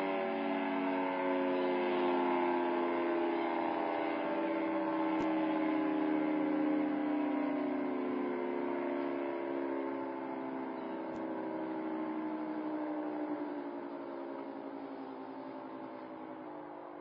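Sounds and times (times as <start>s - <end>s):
warning siren winding down: 0.0s - 17.0s.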